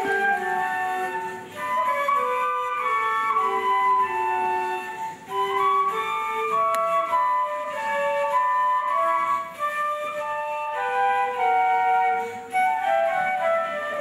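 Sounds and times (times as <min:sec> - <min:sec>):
flute melody: 0:00.0 - 0:14.0.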